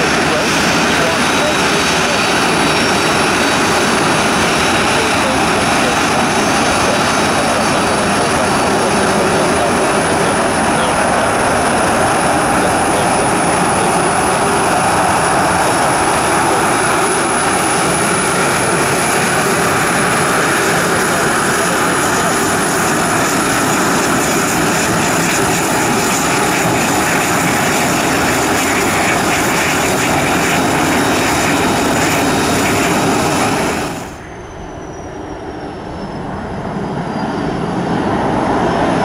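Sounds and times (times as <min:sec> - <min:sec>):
high-pitched engine whine: 0:00.0 - 0:39.0
jet engines rushing: 0:00.0 - 0:39.0.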